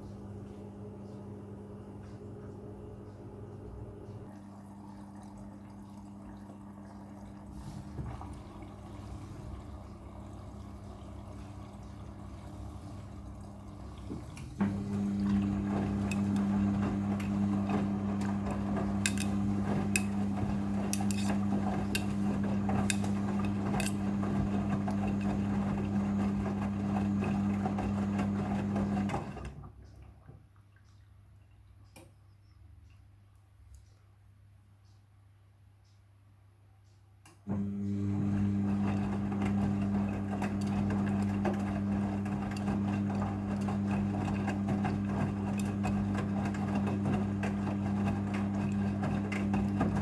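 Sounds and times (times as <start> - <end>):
washing machine humming: 0.0 - 31.7, 37.4 - 50.0.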